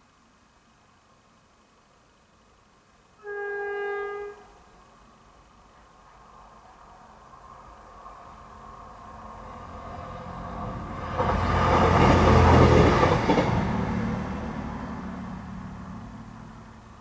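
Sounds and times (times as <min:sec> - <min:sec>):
diesel train passing: 0:03.1 - 0:17.0.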